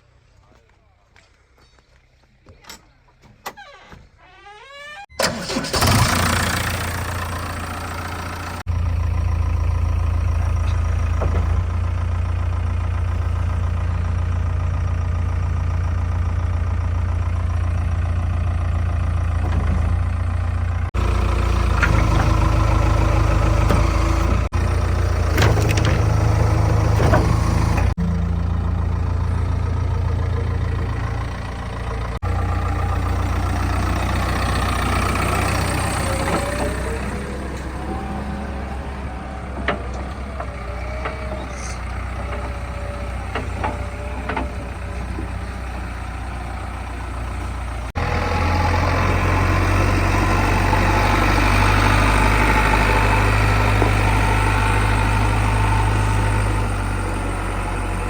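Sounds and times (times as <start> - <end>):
diesel machinery engine running: 5.1 - 58.0.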